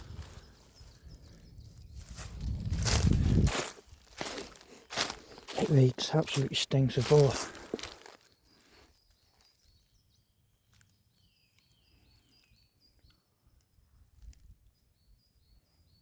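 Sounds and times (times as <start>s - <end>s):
songbird calling: 0.0s - 2.9s, 4.1s - 14.0s.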